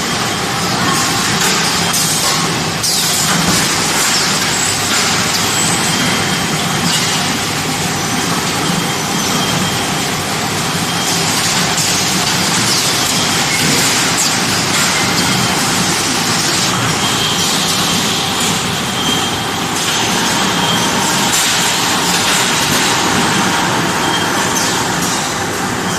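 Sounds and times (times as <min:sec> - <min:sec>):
packing machine mechanical din: 0:00.0 - 0:25.9.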